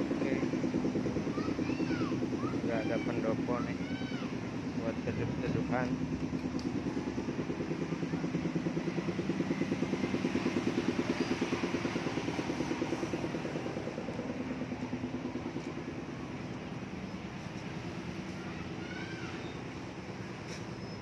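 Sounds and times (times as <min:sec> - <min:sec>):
small engine puttering: 0:00.0 - 0:21.0.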